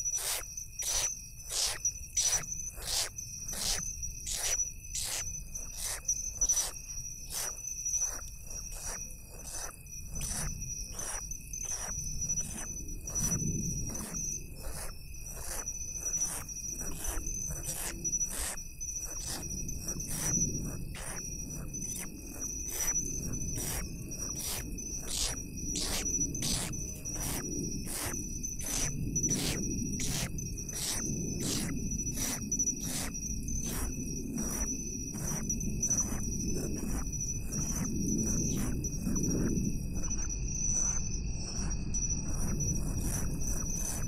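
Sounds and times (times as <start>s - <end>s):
insect chirps: 0.0s - 44.0s
insects trilling: 0.0s - 44.0s.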